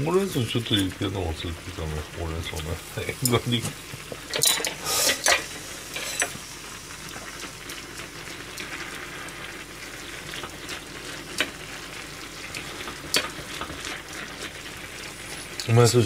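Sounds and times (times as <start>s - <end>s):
broth bubbling in saucepan: 0.0s - 16.0s.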